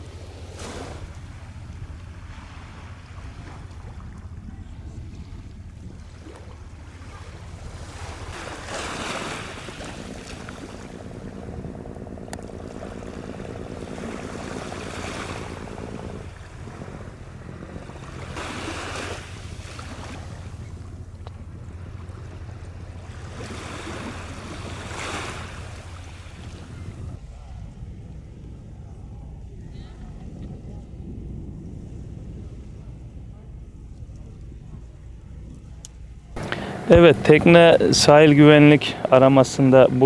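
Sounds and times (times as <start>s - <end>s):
sea waves surging: 0.0s - 29.2s, 36.4s - 40.0s
motor-like drone: 0.0s - 40.0s
wind rumble on microphone: 0.0s - 40.0s.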